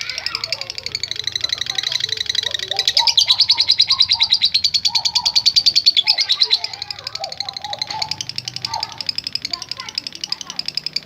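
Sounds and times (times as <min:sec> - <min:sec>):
lovebird trilled chatter: 0:00.0 - 0:11.0
low bird warbling: 0:00.0 - 0:11.0.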